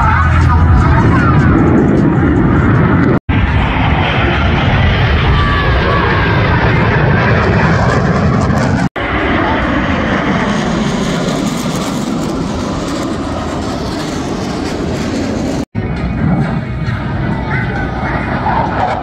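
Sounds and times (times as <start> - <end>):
jet engine rush: 0.0 - 19.0.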